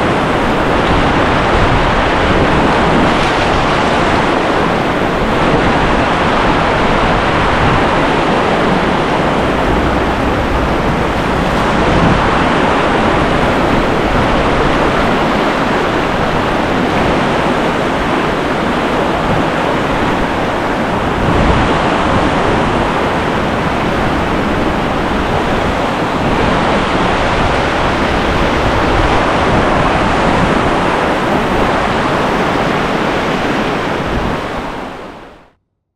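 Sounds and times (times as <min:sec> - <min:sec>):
whitewater rushing: 0:00.0 - 0:35.0.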